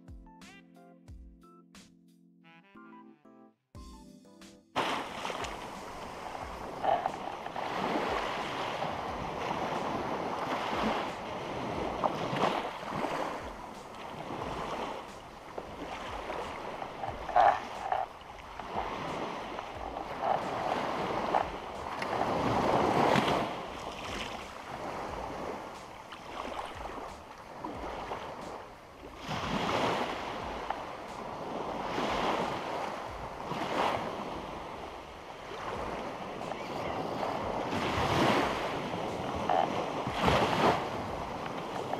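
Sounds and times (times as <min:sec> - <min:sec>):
sea water lapping: 0:04.8 - 0:41.9
wind buffeting microphone: 0:05.5 - 0:41.9.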